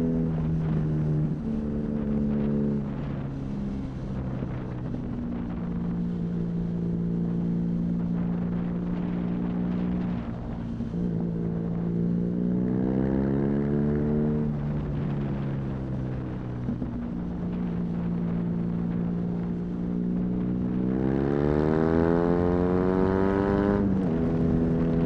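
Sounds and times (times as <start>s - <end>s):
motorcycle engine accelerating: 0.0s - 25.0s
wind rushing over microphone: 0.0s - 25.0s.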